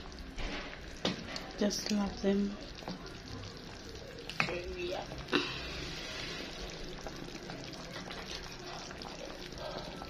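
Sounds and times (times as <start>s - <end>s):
pot simmering with bubbling: 0.0s - 10.0s.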